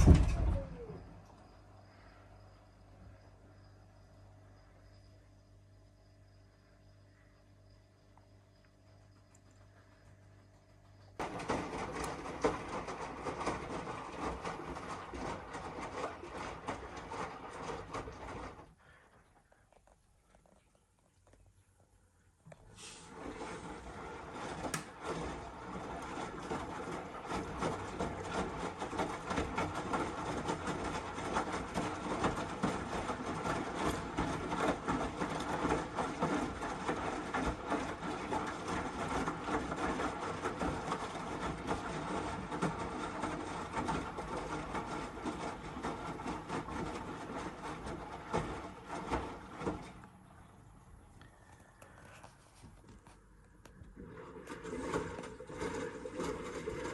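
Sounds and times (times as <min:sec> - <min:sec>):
washing machine whirring and rattling: 0:00.0 - 0:56.9.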